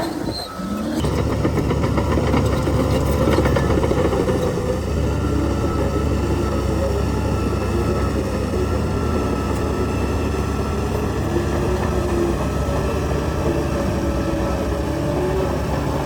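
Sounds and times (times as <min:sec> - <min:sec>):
heavy diesel engine rumbling: 0:00.0 - 0:16.0.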